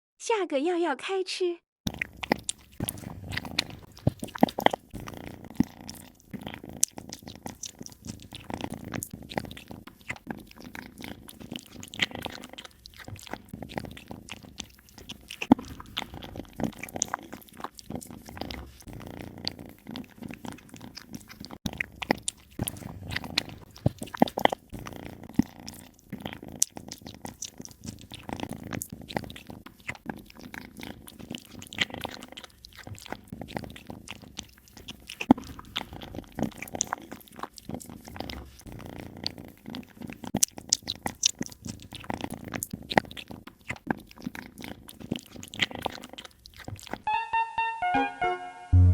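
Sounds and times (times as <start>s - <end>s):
cat chewing food: 1.9s - 47.1s.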